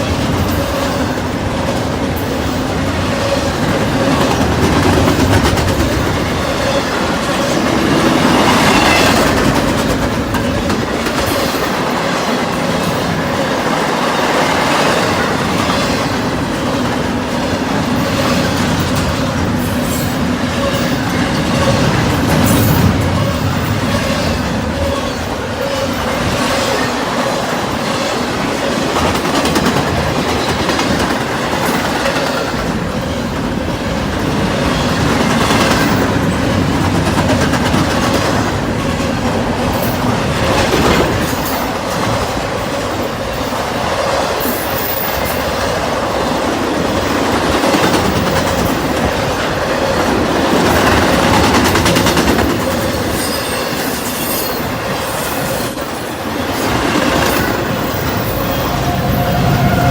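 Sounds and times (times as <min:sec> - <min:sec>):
train wheels squealing: 0:00.0 - 0:01.4, 0:02.1 - 0:59.9
freight train rumbling past: 0:00.0 - 0:59.9
wheels clacking over rail joints: 0:00.0 - 0:59.9.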